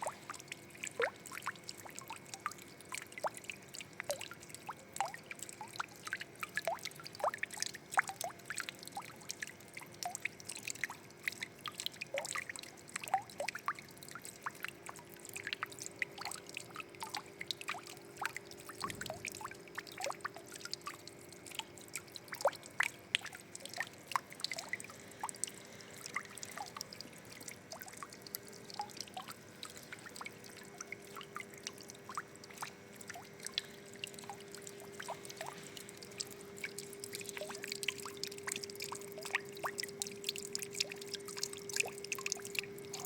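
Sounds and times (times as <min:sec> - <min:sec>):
water dripping and splashing: 0:00.0 - 0:43.0.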